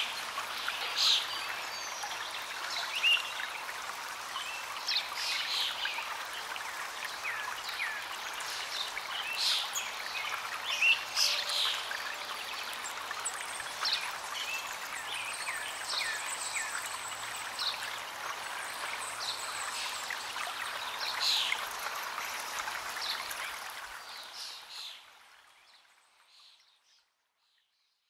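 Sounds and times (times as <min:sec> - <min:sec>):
stream running over stones: 0:00.0 - 0:27.6.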